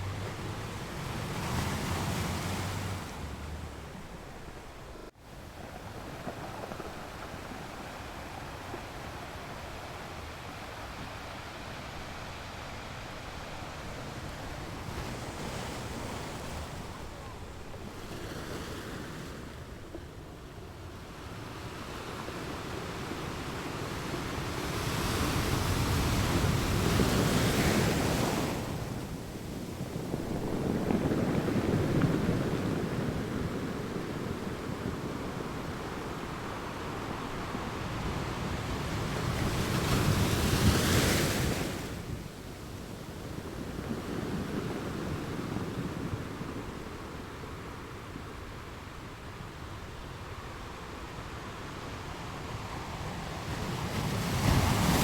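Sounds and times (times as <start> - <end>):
ocean waves breaking: 0.0 - 49.3, 51.1 - 55.0.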